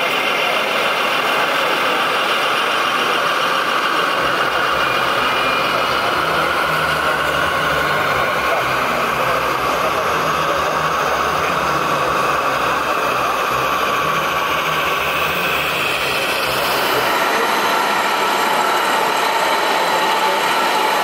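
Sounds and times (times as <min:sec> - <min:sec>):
pulsing diesel engine rumble: 0:00.0 - 0:21.0
steady high hum: 0:00.0 - 0:21.0.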